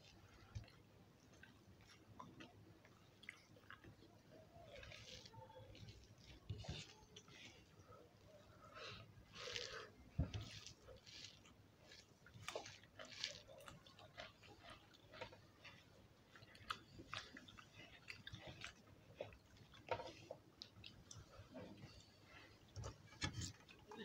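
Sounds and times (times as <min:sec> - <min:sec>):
chewing and mouth smacks: 0:00.0 - 0:24.0.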